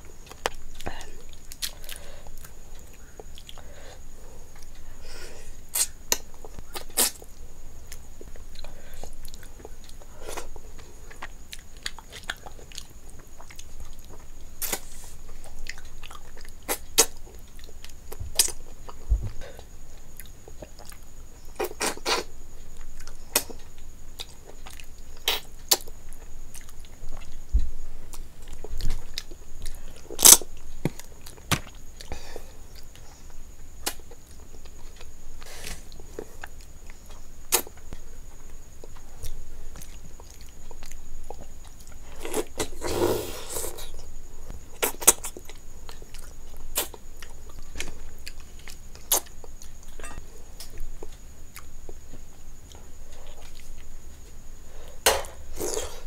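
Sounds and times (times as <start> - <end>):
food mixed by hand and chewed: 0.0 - 4.9, 5.7 - 56.0.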